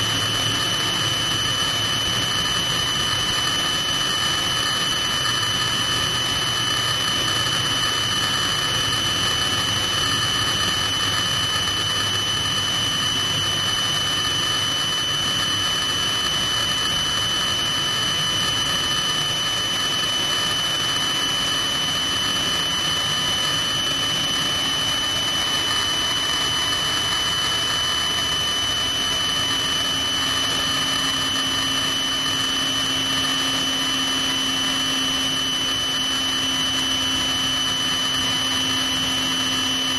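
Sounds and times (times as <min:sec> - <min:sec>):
helicopter turbine engine whine: 0:00.0 - 0:39.9.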